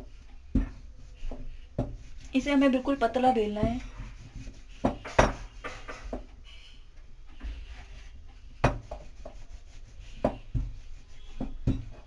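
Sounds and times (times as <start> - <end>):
rolling pin rolling dough: 0.0 - 6.6, 7.3 - 12.0.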